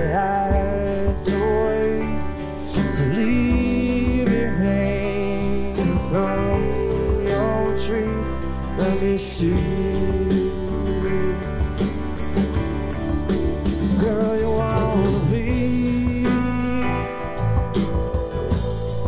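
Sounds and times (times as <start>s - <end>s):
male lead vocal: 0.0s - 12.4s, 13.8s - 18.7s
bass guitar: 0.0s - 19.0s
drum kit with cymbals: 0.0s - 19.0s
electric guitar: 0.0s - 19.0s
strummed acoustic guitar: 0.0s - 19.0s.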